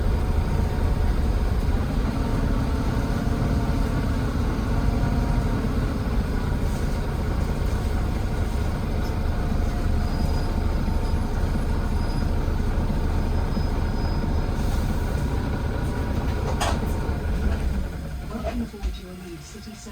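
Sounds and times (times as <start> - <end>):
bus diesel engine rumbling: 0.0 - 19.9
faint engine whine: 0.0 - 19.9.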